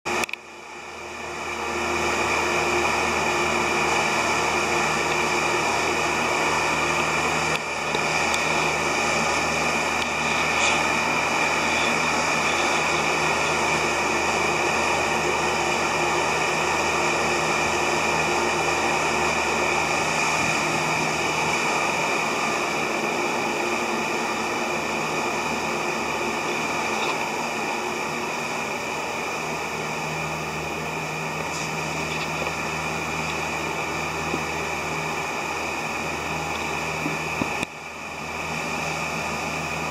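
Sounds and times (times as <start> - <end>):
electric fans whirring: 0.1 - 39.9
thin high whine: 0.1 - 39.9.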